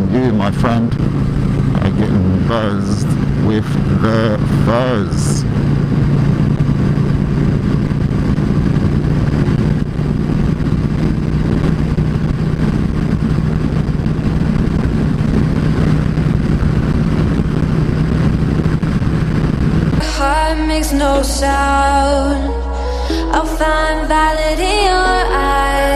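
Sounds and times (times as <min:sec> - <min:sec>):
wind noise rushing: 0:00.0 - 0:20.9
motorcycle engine cruising: 0:00.0 - 0:25.9.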